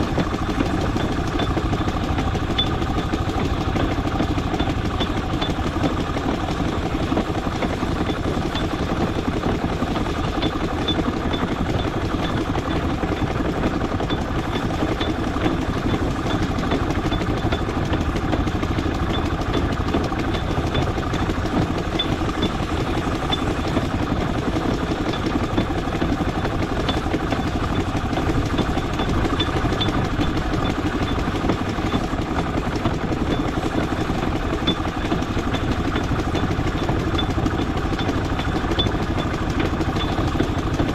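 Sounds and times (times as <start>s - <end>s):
light mechanical ticks and clatter: 0.0s - 40.9s
steam traction engine rumbling: 0.0s - 40.9s.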